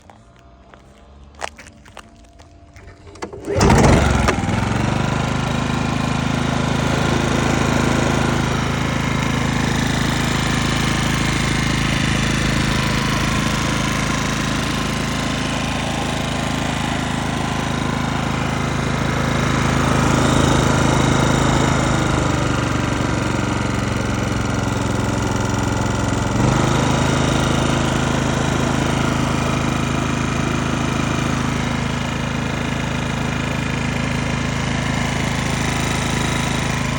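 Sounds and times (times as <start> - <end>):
generator engine running: 0.0 - 36.9.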